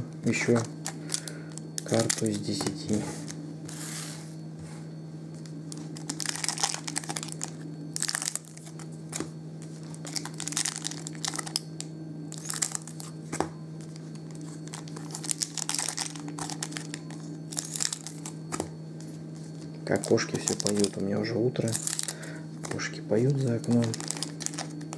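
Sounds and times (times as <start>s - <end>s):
steady low hum: 0.0s - 24.9s
foil card packs crinkling: 0.3s - 3.4s, 5.7s - 24.9s.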